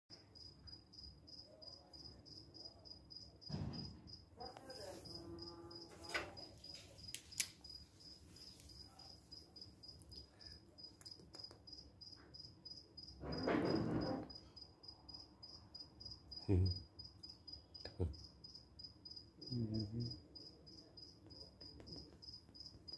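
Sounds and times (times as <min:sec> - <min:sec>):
cricket chirping: 0:00.1 - 0:22.9.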